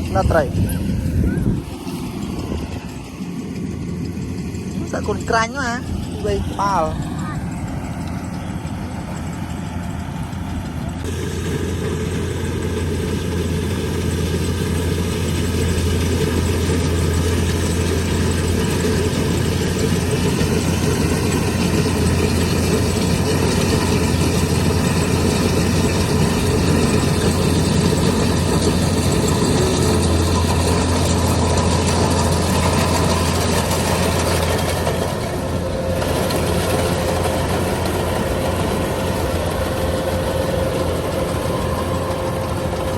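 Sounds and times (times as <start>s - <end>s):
harvesting machine engine running: 0.0s - 42.9s.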